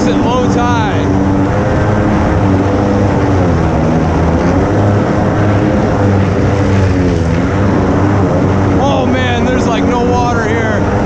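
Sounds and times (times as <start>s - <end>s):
jet ski engine running: 0.0s - 11.0s.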